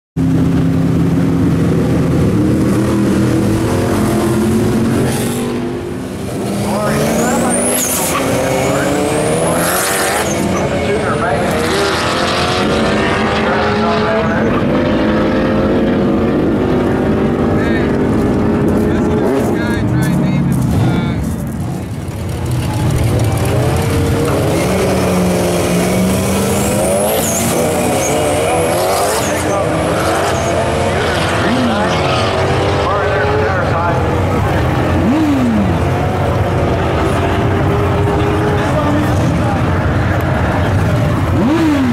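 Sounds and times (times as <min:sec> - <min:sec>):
drag car engines revving: 0:00.2 - 0:41.9.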